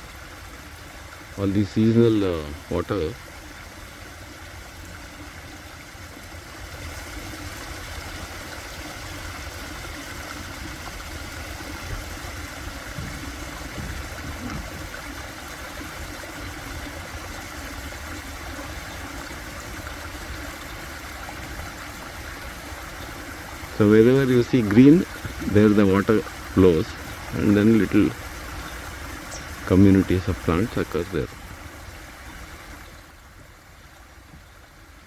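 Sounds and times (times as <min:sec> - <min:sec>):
stream water running over rocks: 0:00.0 - 0:35.0.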